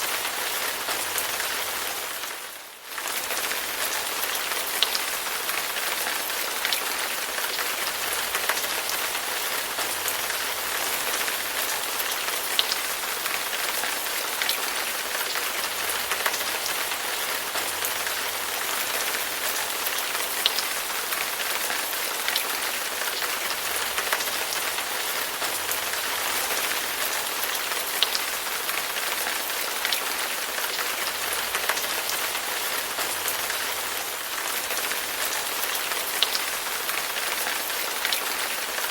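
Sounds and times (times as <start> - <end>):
heavy rain on hard surface: 0.0 - 38.9.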